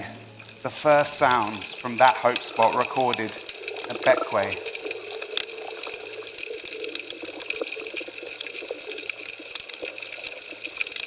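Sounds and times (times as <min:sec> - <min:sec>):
snapping shrimp crackle: 0:00.5 - 0:11.0.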